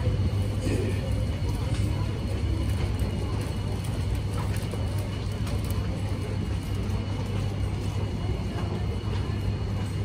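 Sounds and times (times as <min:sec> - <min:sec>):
murmur of crowd: 0:00.0 - 0:10.0
steady low hum: 0:00.0 - 0:10.0.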